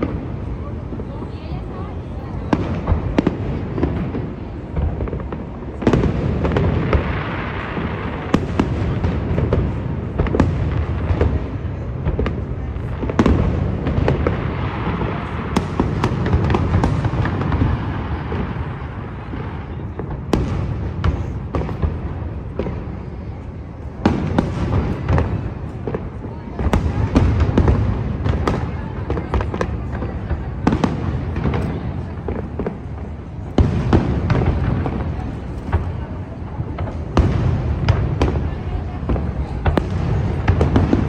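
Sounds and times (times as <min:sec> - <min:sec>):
fireworks booms and bangs: 0:00.0 - 0:41.0.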